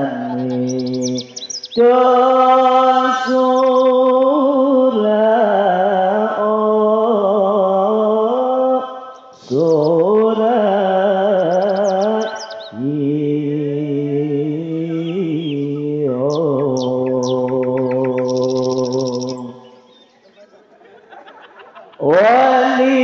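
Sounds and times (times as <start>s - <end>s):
man singing into a microphone: 0.0s - 19.7s, 22.0s - 23.0s.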